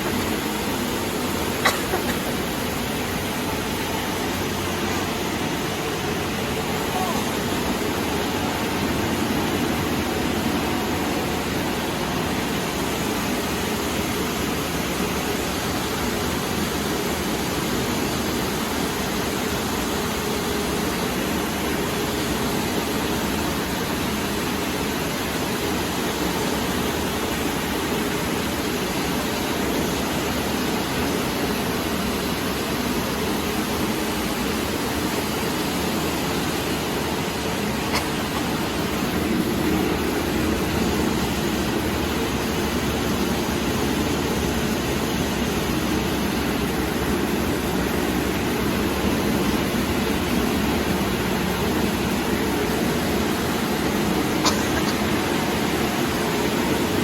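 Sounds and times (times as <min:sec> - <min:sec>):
production line machinery noise: 0:00.0 - 0:57.0.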